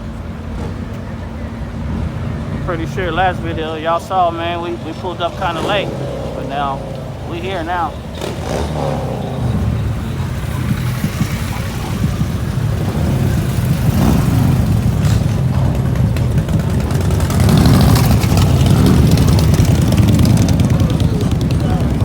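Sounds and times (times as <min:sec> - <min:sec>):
vehicle engine accelerating: 0:00.0 - 0:22.0.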